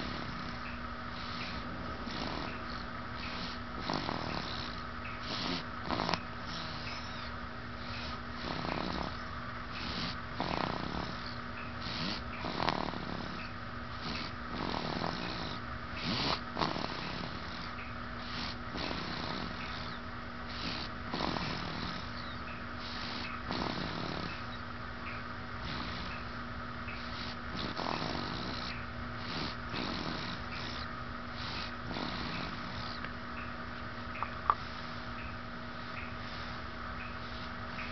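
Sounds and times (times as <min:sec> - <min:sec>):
snoring breaths: 0:00.0 - 0:33.1, 0:34.2 - 0:37.9
steady background hum: 0:00.0 - 0:37.9.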